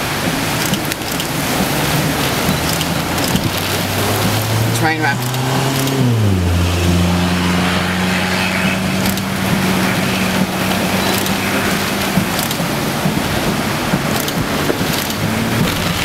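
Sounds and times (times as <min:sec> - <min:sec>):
car engine hum: 0:00.0 - 0:16.0
wind and rain on car: 0:00.0 - 0:16.0.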